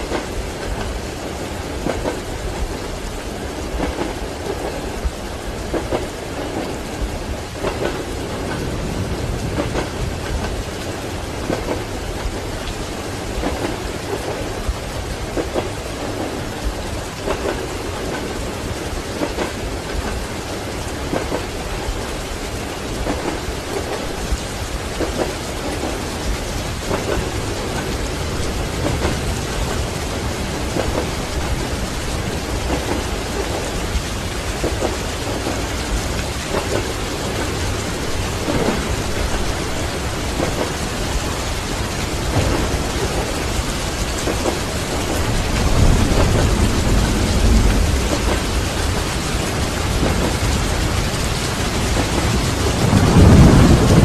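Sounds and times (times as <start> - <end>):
heavy rain pattering: 0.0 - 54.0
low rumble of thunder: 0.0 - 54.0.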